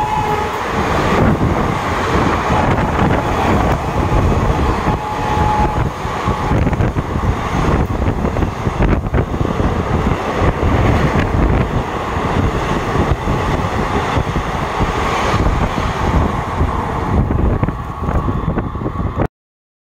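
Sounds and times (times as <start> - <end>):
train passing with rumble: 0.0 - 19.3.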